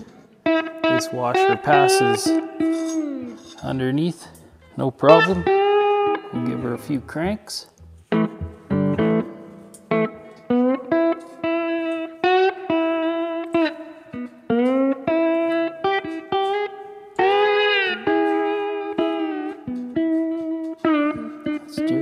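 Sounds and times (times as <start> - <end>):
electric guitar single plucked notes: 0.0 - 22.0.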